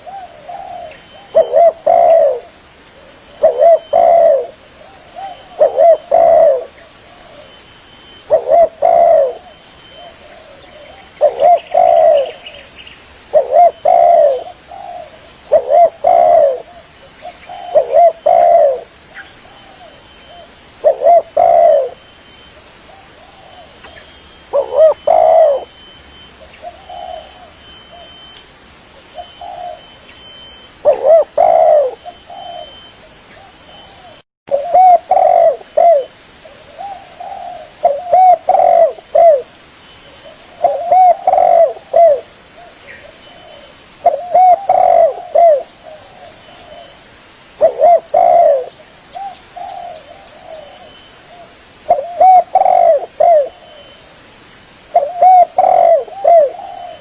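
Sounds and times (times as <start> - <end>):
dove cooing: 0.0 - 12.7, 13.3 - 28.4, 29.0 - 47.0, 47.6 - 54.0, 54.9 - 57.0.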